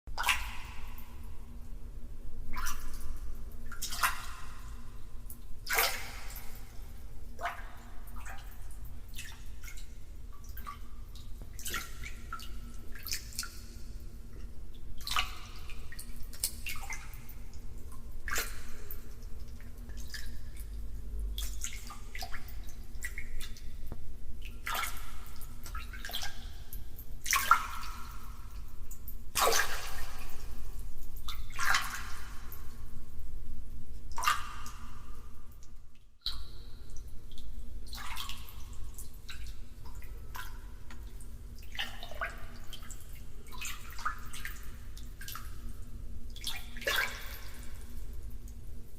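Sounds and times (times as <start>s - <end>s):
water dripping and splashing: 0.1s - 48.9s.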